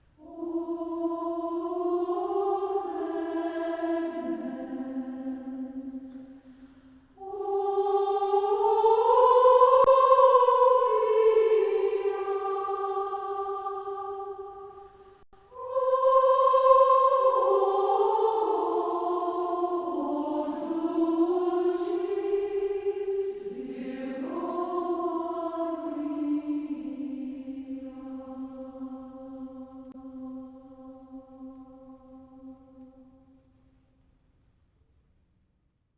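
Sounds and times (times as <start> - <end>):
choir singing a hymn: 0.2 - 33.4.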